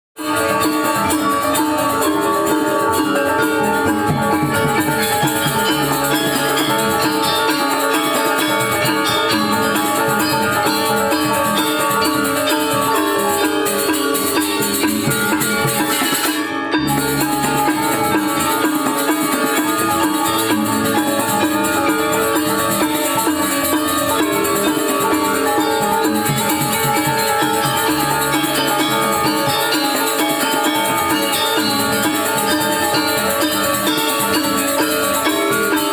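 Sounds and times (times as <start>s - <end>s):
bronze metallophones ringing: 0.2s - 35.9s
drums: 0.2s - 35.9s.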